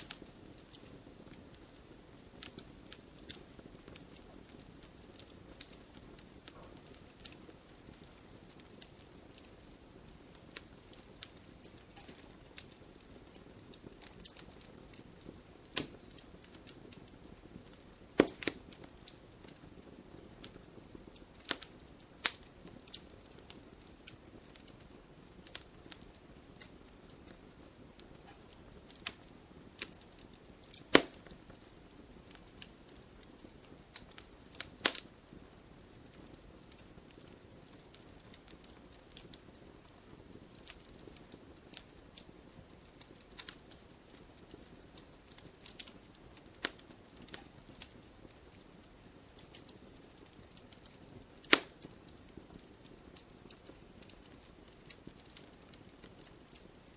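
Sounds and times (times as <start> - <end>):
campfire crackling and snapping: 0.0 - 56.9
soft hiss of fire: 0.0 - 56.9.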